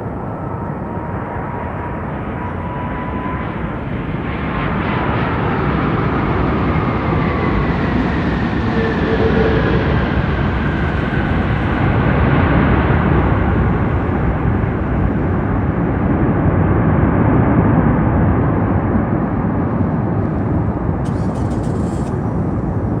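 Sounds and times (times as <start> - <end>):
jet engine roar: 0.1 - 23.0.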